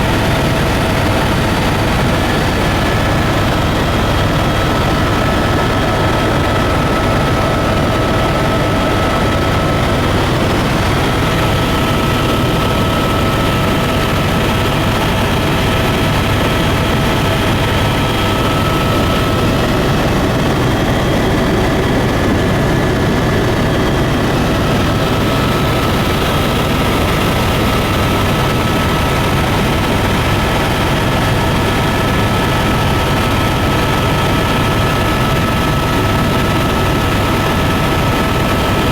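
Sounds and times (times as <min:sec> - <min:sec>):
airplane engines droning: 0:00.0 - 0:38.9.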